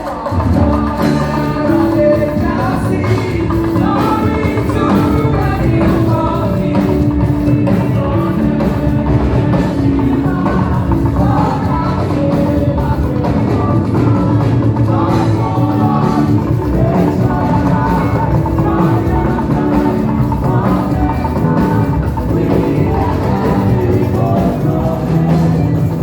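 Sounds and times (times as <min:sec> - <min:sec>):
drums and percussion beat: 0:00.0 - 0:26.0
group of voices singing gospel: 0:00.0 - 0:26.0.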